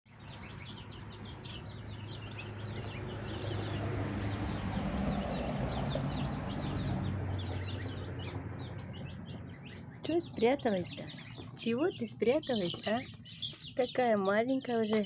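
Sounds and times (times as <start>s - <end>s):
goslings and ducklings peeping: 0.1s - 15.0s.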